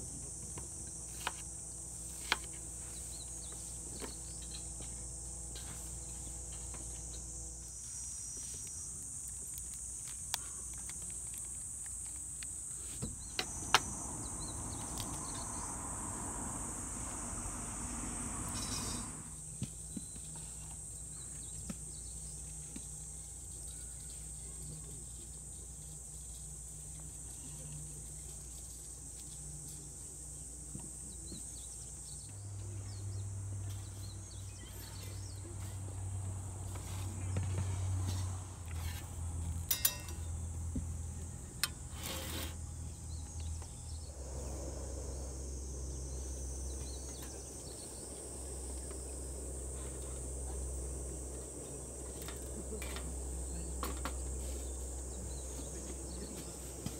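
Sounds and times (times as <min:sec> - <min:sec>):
insects chirring: 0:00.0 - 0:56.9.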